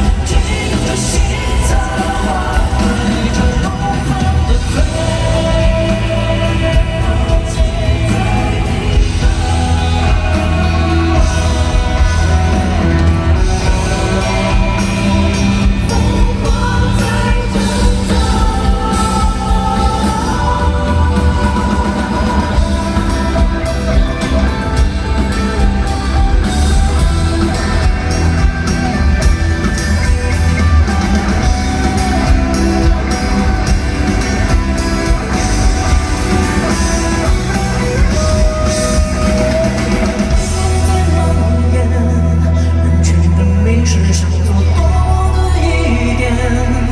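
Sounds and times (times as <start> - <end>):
live band with guitar and drums: 0.0 - 46.9.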